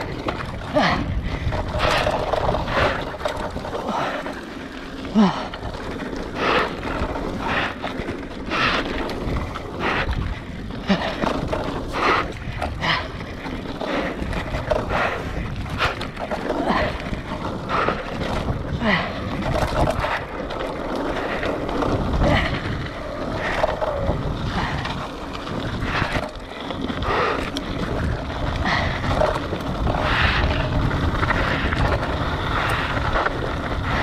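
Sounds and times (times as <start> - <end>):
bike rattling over bumps: 0.0 - 34.0
bike tyres rolling on dirt: 0.0 - 34.0.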